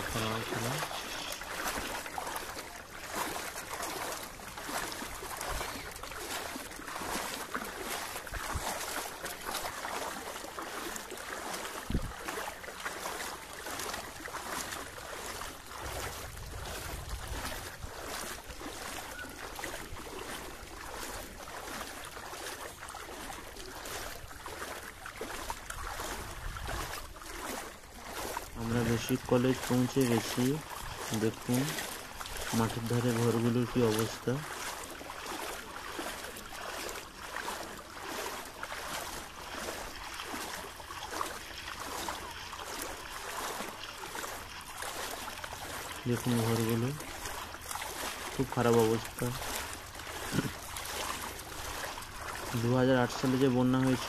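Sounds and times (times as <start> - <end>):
bicycle wheels sloshing through water: 0.0 - 54.0.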